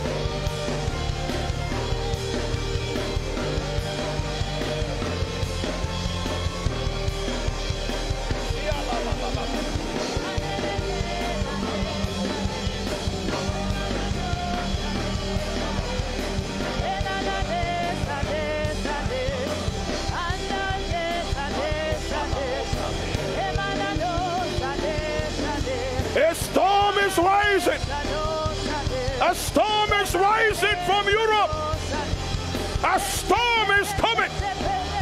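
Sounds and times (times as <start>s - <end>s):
worship band playing: 0.0s - 35.0s
congregation singing: 6.2s - 35.0s.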